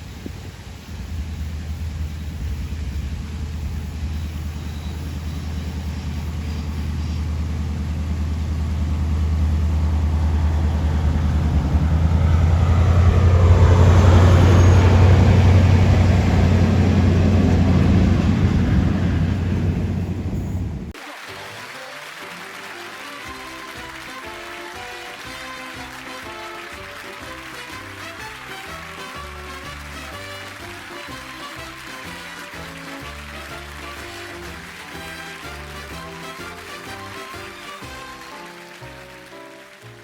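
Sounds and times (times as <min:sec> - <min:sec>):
diesel locomotive passing: 0:00.0 - 0:21.0, 0:23.2 - 0:40.0.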